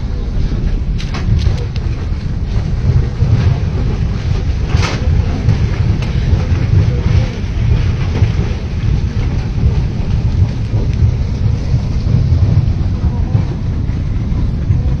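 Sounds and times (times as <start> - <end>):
muddy water torrent rumbling: 0.0 - 15.0.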